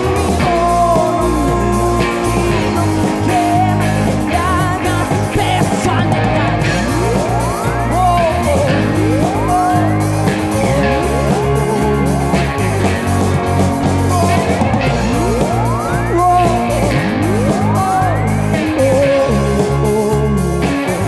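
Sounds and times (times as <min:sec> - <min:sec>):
rising sweeping tones: 0:00.0 - 0:20.7
live rock band playing: 0:00.0 - 0:21.0
man singing: 0:00.0 - 0:21.0.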